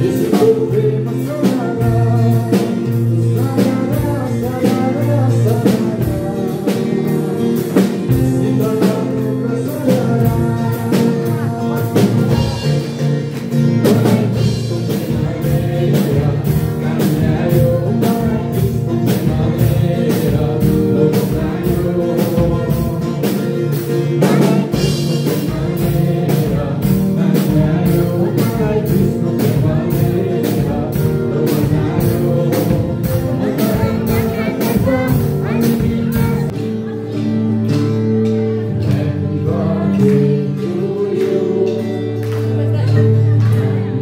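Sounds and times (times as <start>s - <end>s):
worship song singing: 0.0s - 37.5s, 38.3s - 44.0s
instruments with steady beat: 0.0s - 43.7s.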